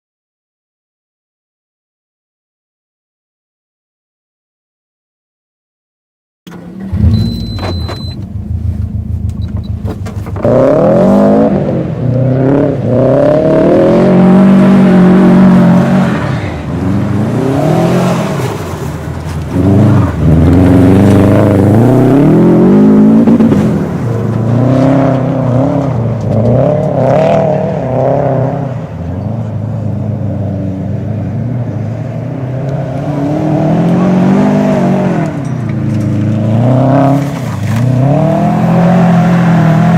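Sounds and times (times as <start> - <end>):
car engine revving: 6.5 - 39.9.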